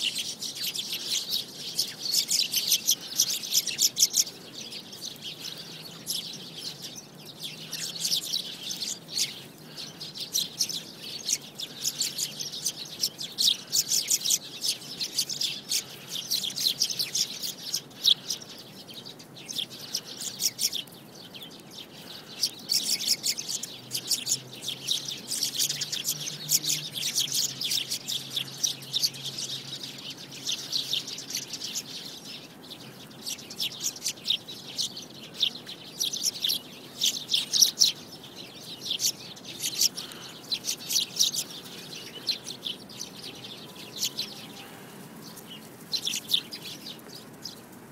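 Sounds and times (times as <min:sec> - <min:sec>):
sparrows chirping: 0:00.0 - 0:47.9.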